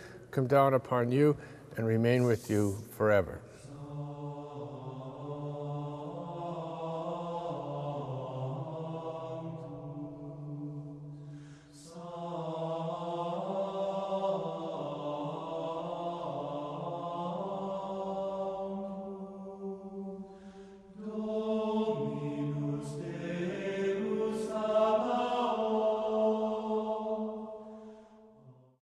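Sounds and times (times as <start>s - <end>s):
slow vocal chant: 1.1s - 28.8s.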